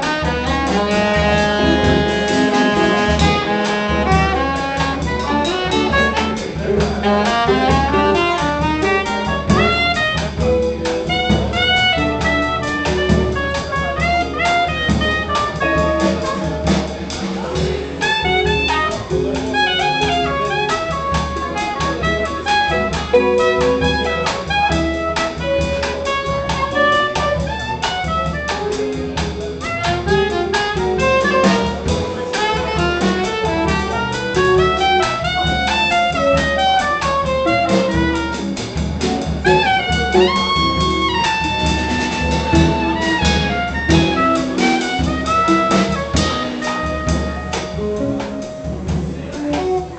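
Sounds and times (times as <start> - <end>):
drum kit: 0.0 - 49.9
soprano saxophone melody: 0.0 - 49.9
upright bass: 0.0 - 49.9.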